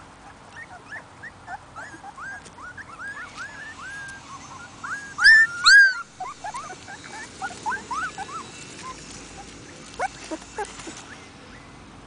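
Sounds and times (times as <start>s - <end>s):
puppies whimpering and squealing: 0.2s - 11.8s.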